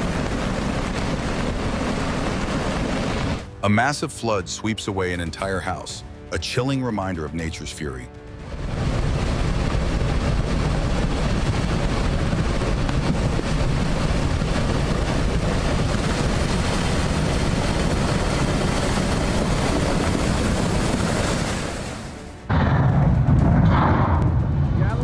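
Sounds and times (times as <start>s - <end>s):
floodwater rushing: 0.0s - 22.5s.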